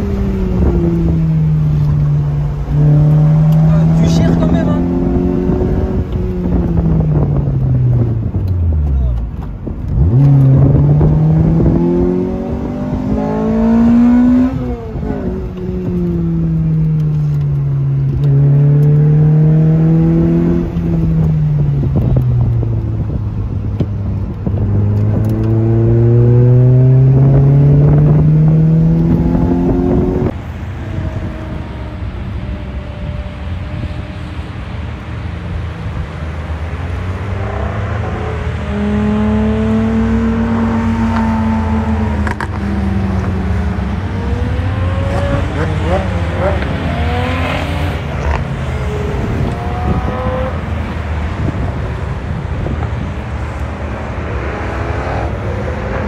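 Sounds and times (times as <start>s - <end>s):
sports car engine accelerating: 0.0s - 56.0s.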